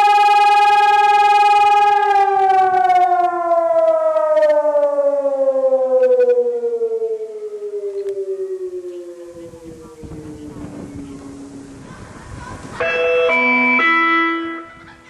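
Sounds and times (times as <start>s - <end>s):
fire siren: 0.0s - 11.9s, 13.0s - 14.8s.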